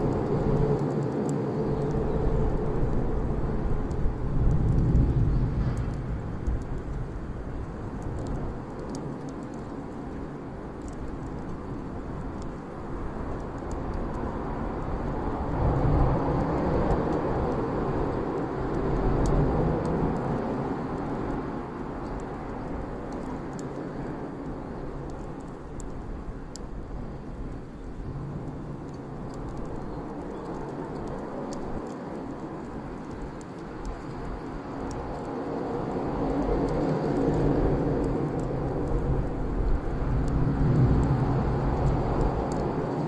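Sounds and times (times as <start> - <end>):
bonfire rushing: 0.0 - 43.0
burning wood crackling and popping: 0.0 - 43.0.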